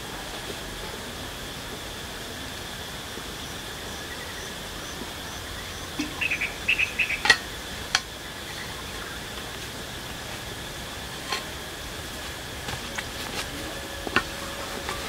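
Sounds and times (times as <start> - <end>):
faint chirps: 0.0 - 15.0
insect buzz: 0.1 - 15.0.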